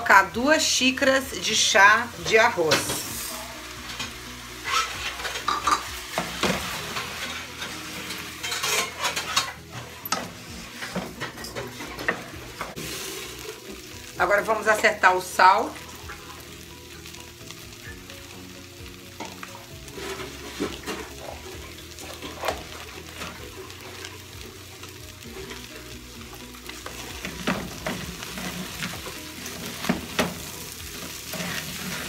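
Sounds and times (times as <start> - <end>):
rice and octopus sizzling: 0.0 - 32.0.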